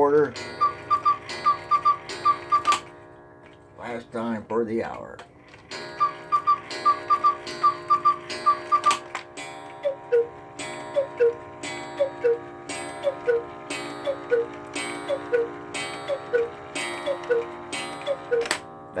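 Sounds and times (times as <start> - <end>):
cuckoo clock calls: 0.0 - 4.3, 5.3 - 19.0
clock ticking: 0.0 - 18.6.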